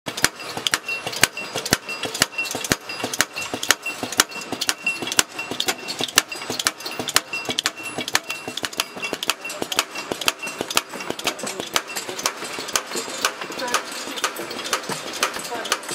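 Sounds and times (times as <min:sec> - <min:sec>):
machine clicking rhythmically: 0:00.1 - 0:15.9
faint high machine whine: 0:00.2 - 0:15.9.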